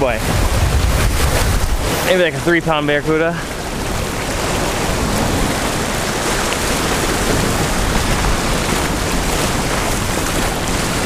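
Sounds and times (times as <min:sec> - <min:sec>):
small waves washing over rocks: 0:00.0 - 0:11.0
wind buffeting microphone: 0:00.0 - 0:11.0.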